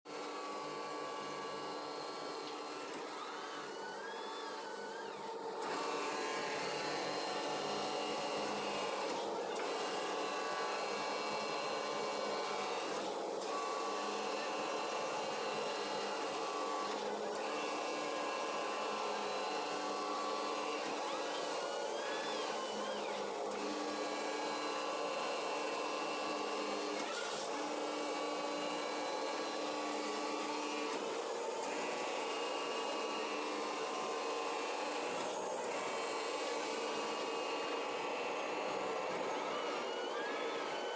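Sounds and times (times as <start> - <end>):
fabric cutting machine whirring: 0.1 - 40.9.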